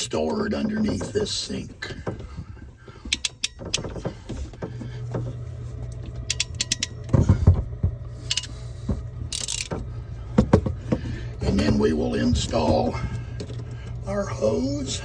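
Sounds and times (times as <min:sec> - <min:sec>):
plumbing fittings clicking and knocking: 0:00.0 - 0:14.0
low steady hum: 0:00.0 - 0:15.0.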